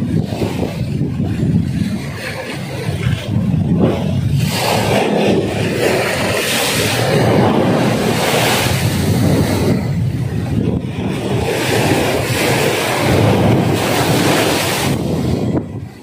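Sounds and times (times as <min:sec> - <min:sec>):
surf on rocky shore: 0:00.0 - 0:16.0
wind buffeting microphone: 0:00.0 - 0:16.0.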